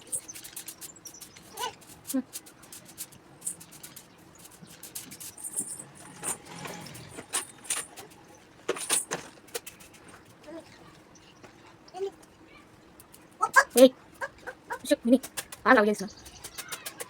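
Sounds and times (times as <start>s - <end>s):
birds scratching nesting material: 0.0s - 10.4s, 13.1s - 17.0s.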